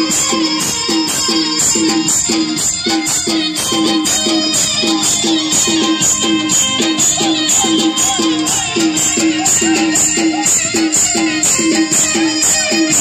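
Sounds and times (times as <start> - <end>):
fast dance music: 0.0 - 13.0.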